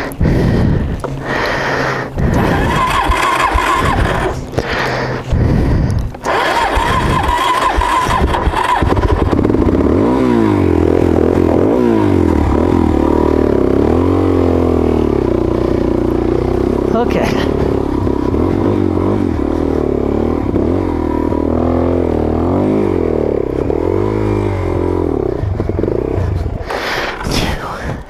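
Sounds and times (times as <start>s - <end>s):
electric starter whining: 0.0s - 22.6s, 23.3s - 28.0s
motorcycle engine running roughly: 0.0s - 27.6s.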